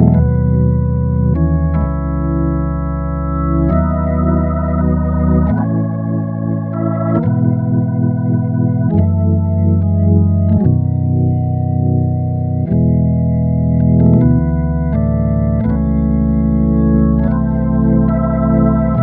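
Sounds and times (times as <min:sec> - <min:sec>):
synthesizer organ chords: 0:00.0 - 0:19.0.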